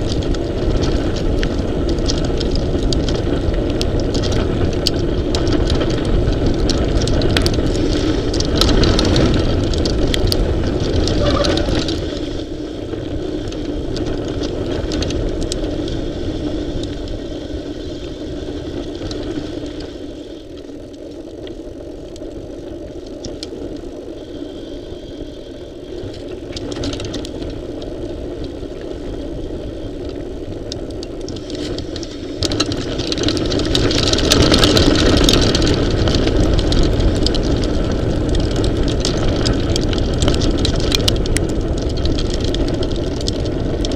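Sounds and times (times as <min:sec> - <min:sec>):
tyre rumbling on dirt: 0:00.0 - 0:17.7, 0:25.9 - 0:43.9
bike rattling over bumps: 0:00.0 - 0:43.9
wind rushing over microphone: 0:00.0 - 0:43.9.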